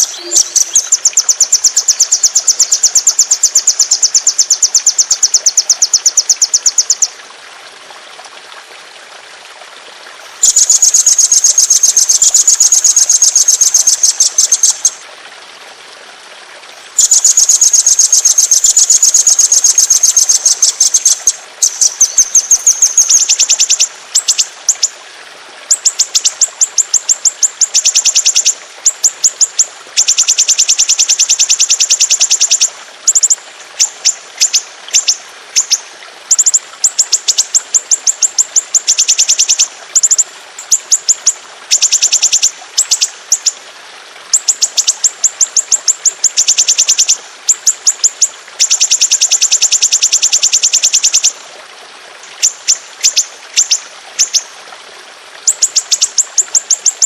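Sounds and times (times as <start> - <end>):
songbird trilling: 0.0 - 7.1, 10.4 - 15.0, 17.0 - 24.9, 25.7 - 28.6, 29.2 - 43.6, 44.3 - 51.3, 52.4 - 54.5.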